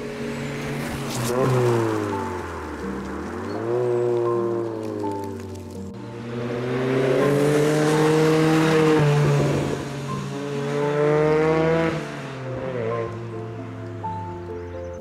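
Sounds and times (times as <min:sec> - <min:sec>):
car engine pulling hard: 0:00.0 - 0:13.6
road noise: 0:00.0 - 0:15.0.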